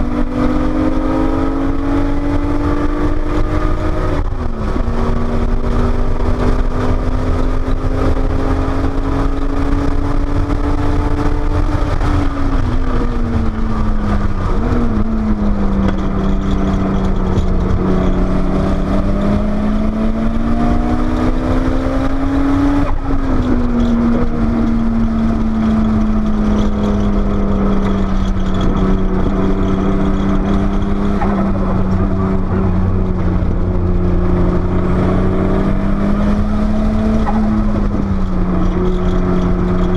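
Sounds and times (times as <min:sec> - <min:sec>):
sports car engine revving: 0:00.0 - 0:39.9
wind and road noise: 0:00.0 - 0:39.9.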